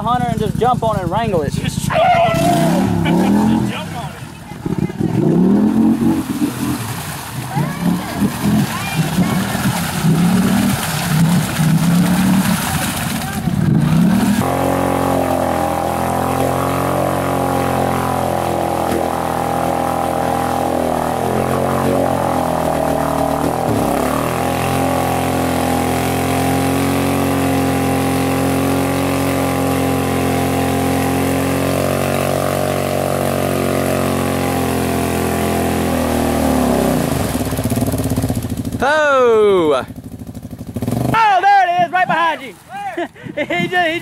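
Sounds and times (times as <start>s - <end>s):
quad engine revving high: 0.0s - 41.4s.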